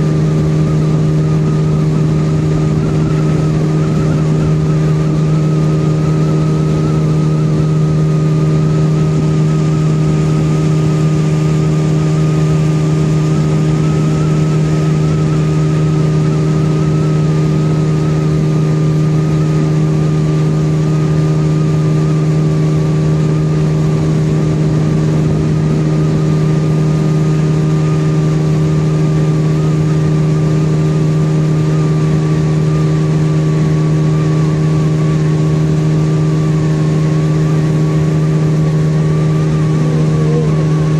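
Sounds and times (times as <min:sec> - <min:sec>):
motorboat engine humming: 0:00.0 - 0:40.9
wind and water rushing: 0:00.0 - 0:40.9.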